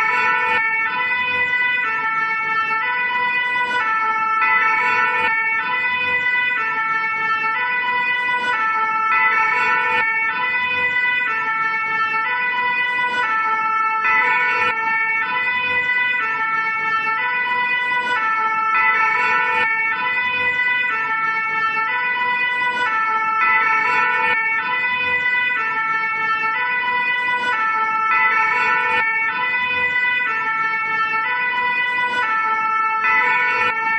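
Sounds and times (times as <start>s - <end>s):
fire engine two-tone siren: 0.0s - 33.9s.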